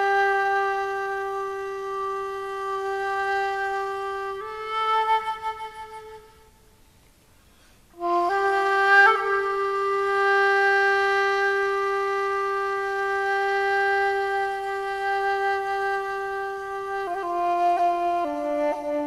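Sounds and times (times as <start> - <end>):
bamboo flute long held note: 0.0 - 6.6, 7.9 - 19.0.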